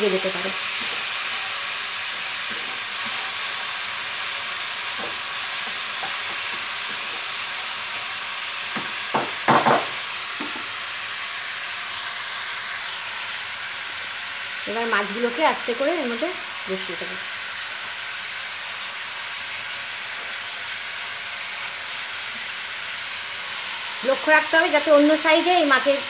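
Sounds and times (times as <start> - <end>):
sauce sizzling in a pan: 0.0 - 26.0.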